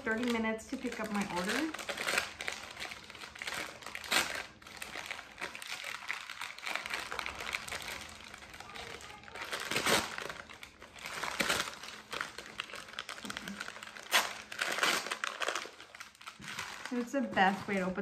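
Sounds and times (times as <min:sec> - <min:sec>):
paper bag crinkling: 0:00.0 - 0:18.0.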